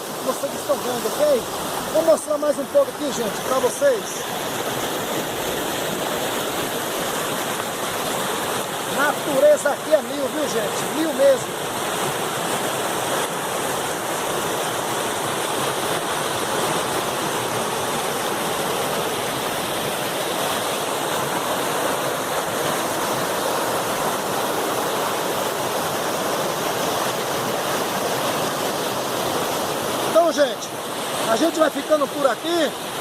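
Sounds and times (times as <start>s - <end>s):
river water rushing over rocks: 0.0s - 33.0s.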